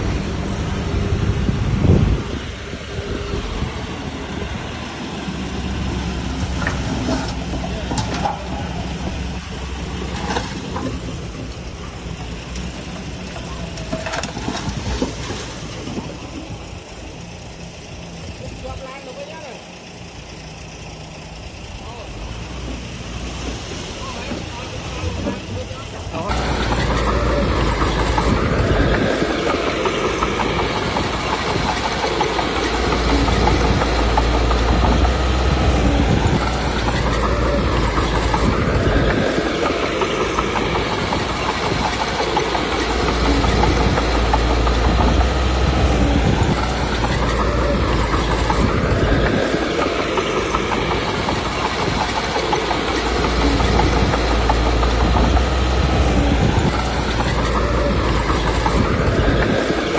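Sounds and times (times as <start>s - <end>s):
bulldozer diesel engine working: 0.0s - 59.9s
steel tracks clattering: 0.0s - 59.9s.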